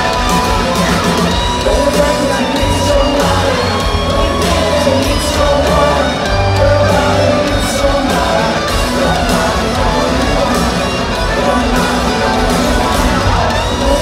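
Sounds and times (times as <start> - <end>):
live rock band: 0.0 - 14.0
person singing: 0.0 - 14.0.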